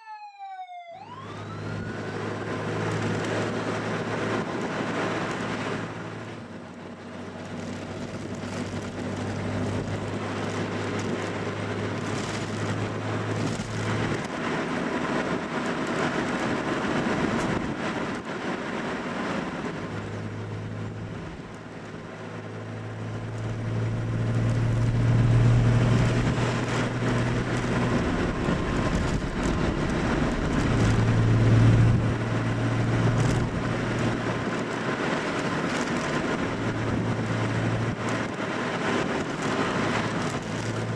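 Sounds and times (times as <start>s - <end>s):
tyre and road noise: 1.1s - 40.9s
car engine droning: 1.2s - 40.9s.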